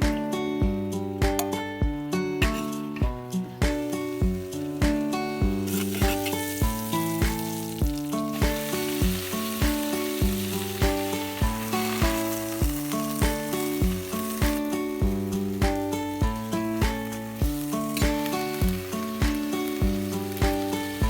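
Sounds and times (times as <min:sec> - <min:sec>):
background music with a beat: 0:00.0 - 0:21.0
food sizzling in a pan: 0:02.4 - 0:21.0.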